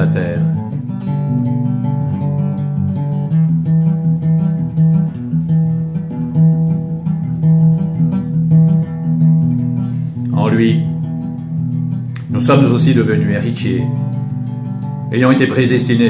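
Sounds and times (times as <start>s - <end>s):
plucked guitar music: 0.0s - 16.0s.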